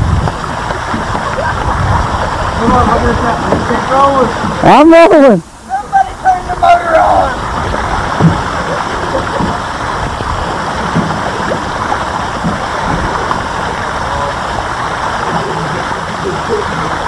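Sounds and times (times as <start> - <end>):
fountain spray splashing water: 0.0 - 17.0.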